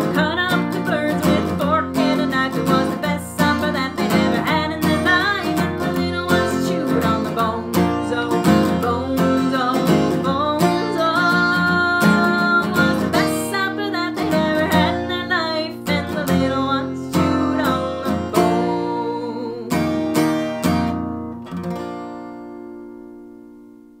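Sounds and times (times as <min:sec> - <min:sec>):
woman singing: 0:00.0 - 0:20.2
acoustic guitar strumming: 0:00.0 - 0:24.0.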